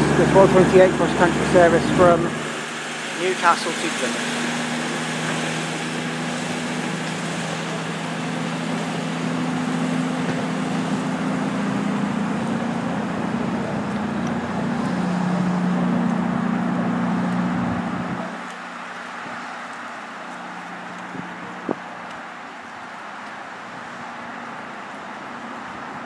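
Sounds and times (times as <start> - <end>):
diesel train engines droning: 0.0 - 26.0.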